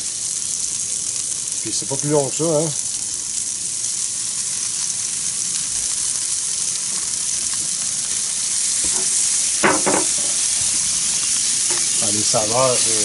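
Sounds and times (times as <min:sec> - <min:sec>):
fish sizzling on hot stone: 0:00.0 - 0:13.0.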